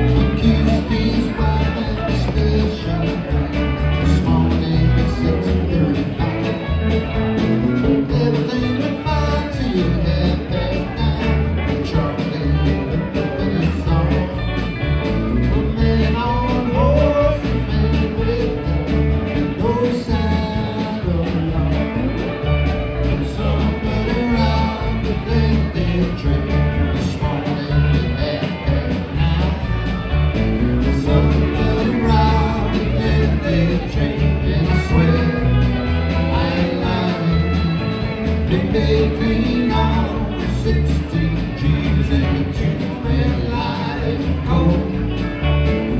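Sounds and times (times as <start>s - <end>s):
guitar playing: 0.0s - 45.9s
live country-rock band: 0.0s - 45.9s.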